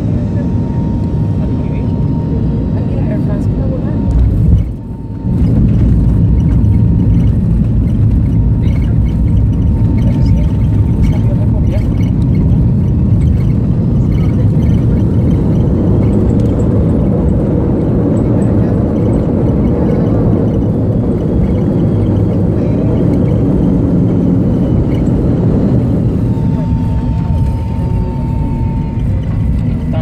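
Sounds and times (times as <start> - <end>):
jetliner engines and wheels rumbling: 0.0 - 30.0.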